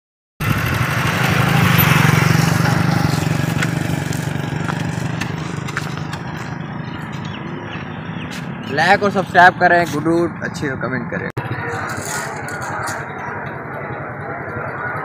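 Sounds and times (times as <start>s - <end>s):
motorcycle engine running: 0.4s - 10.6s, 11.4s - 15.0s.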